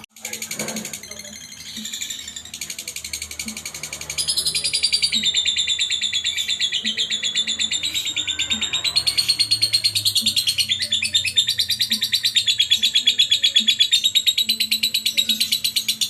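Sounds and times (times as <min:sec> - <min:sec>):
lovebird chattering trill: 0:00.0 - 0:16.0.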